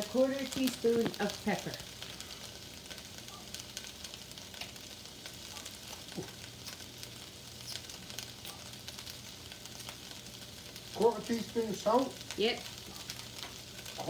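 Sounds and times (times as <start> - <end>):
onions sizzling in a pan: 0.0 - 14.0.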